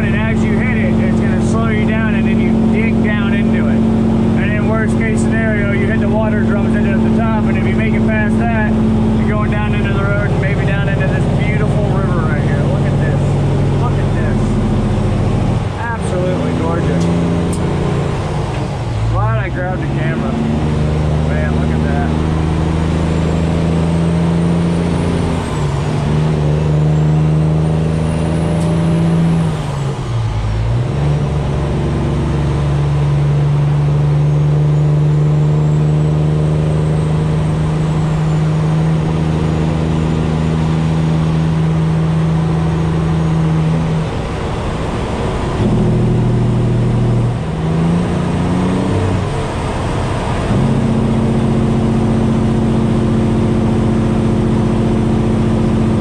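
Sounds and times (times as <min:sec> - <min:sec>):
diesel truck engine under load: 0:00.0 - 0:56.0.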